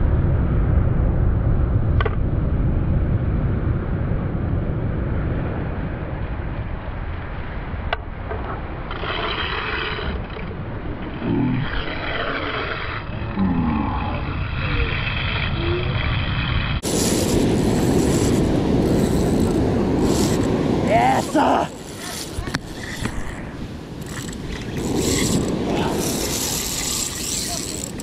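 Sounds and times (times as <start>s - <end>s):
surf rumble: 0.0s - 28.0s
wind buffeting microphone: 0.0s - 28.0s.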